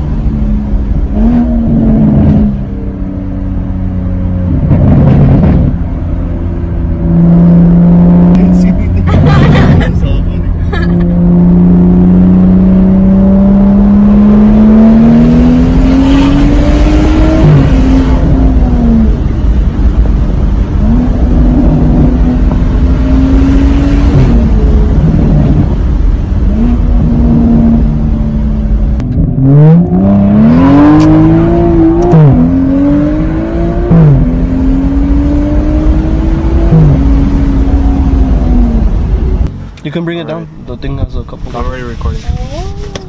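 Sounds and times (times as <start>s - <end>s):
car engine revving through gears: 0.0s - 10.2s, 10.8s - 40.5s.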